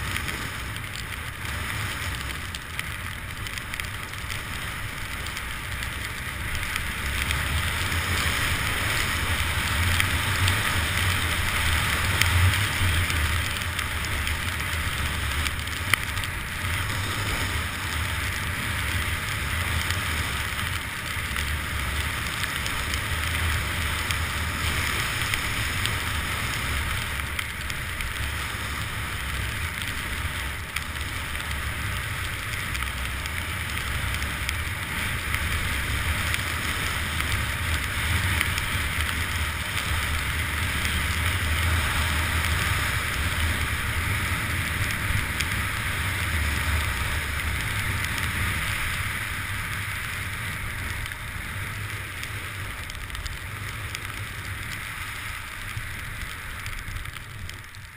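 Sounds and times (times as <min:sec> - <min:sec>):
skis hissing over snow: 0:00.0 - 0:02.5, 0:04.0 - 0:57.4.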